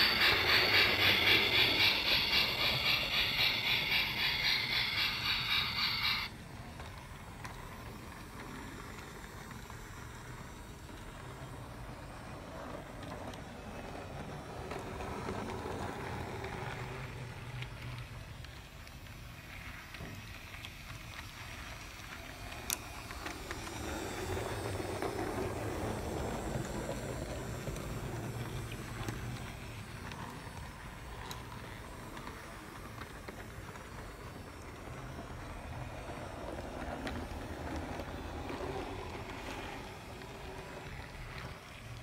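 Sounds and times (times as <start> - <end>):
toy train wheels rolling on track: 0.0 - 42.0.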